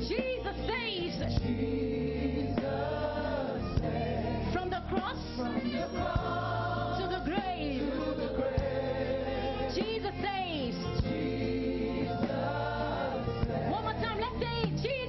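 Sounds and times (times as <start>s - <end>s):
gospel choir singing: 0.0s - 14.5s
band with bass and drums: 0.0s - 15.0s.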